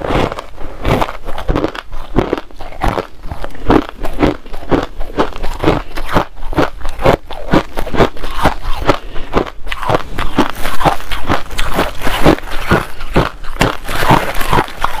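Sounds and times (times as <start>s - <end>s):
person chewing crushed ice: 0.0s - 15.0s.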